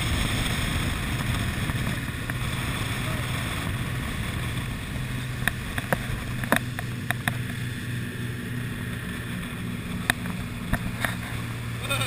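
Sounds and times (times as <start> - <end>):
motorboat engine droning: 0.0 - 12.0
rushing water: 0.0 - 12.0
wind: 0.0 - 12.0.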